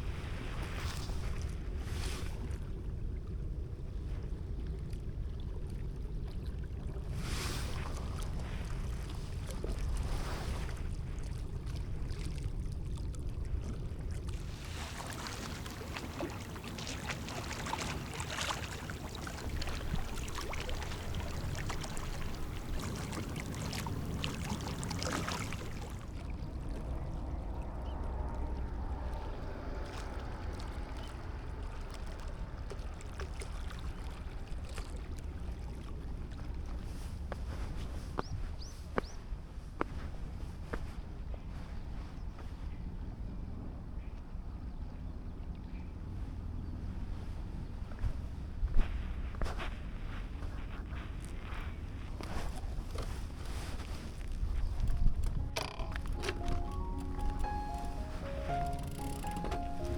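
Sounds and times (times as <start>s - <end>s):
wind rumble on microphone: 0.0s - 57.8s.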